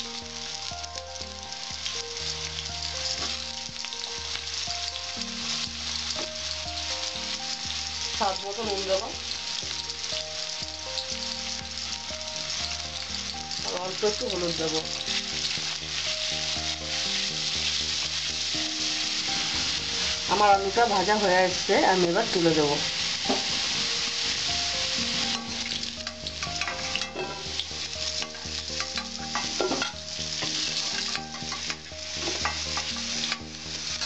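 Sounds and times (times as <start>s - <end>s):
potatoes sizzling in oil: 0.0s - 34.0s
spatula turning food: 0.2s - 34.0s.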